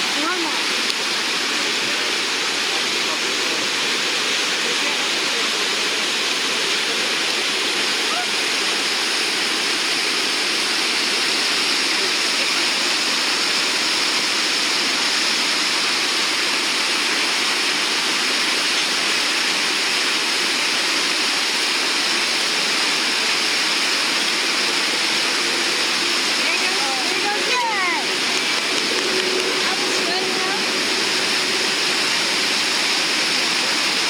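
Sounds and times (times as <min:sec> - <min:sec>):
whitewater rapids roaring: 0:00.0 - 0:34.0.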